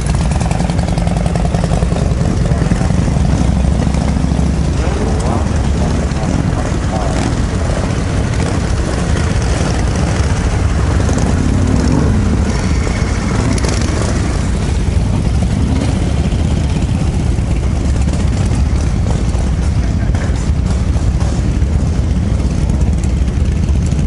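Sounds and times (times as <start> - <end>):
motorcycle engine revving: 0.0 - 24.0
motorcycles idling: 0.0 - 24.0.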